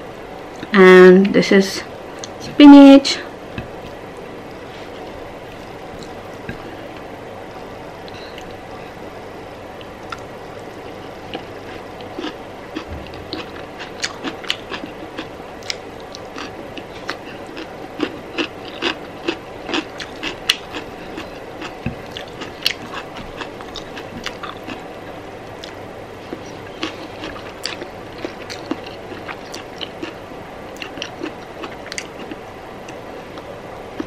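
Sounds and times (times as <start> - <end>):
faint steady hum: 0.0 - 34.0
person chewing: 3.7 - 7.1, 9.8 - 34.0.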